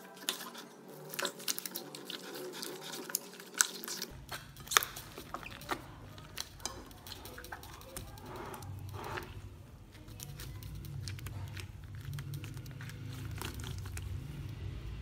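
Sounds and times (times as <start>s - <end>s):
slime squishing: 0.0s - 15.0s.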